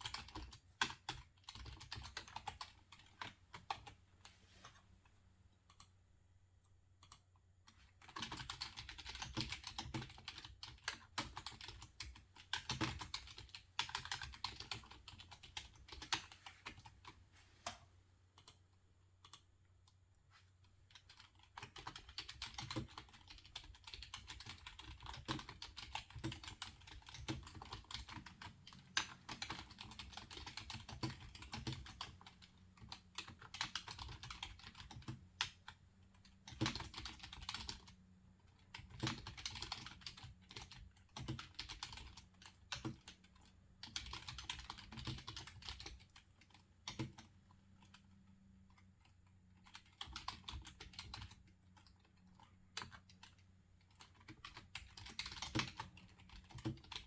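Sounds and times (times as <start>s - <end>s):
typing on computer keyboard: 0.0s - 4.0s, 7.0s - 17.8s, 20.9s - 57.0s.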